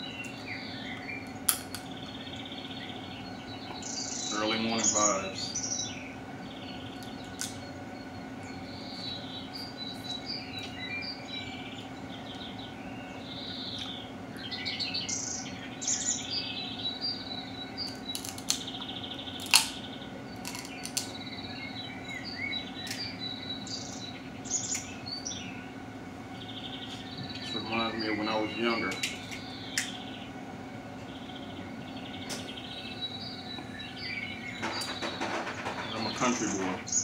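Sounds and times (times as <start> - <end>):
low hum: 0.0 - 37.0
small birds chirping: 0.0 - 37.0.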